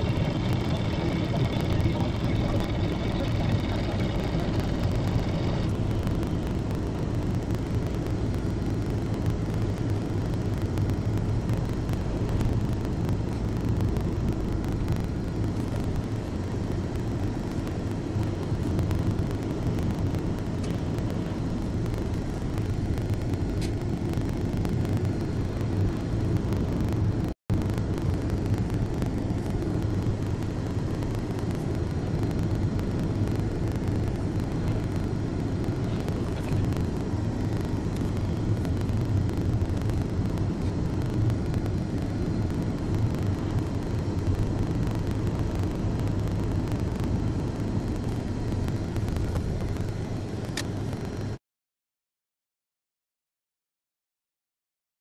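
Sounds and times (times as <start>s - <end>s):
car engine and road noise: 0.0s - 51.4s.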